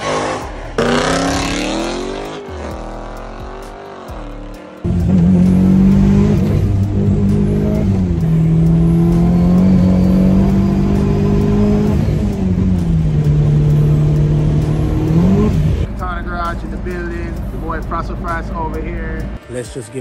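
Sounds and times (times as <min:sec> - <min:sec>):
car engine under load: 0:00.0 - 0:19.4.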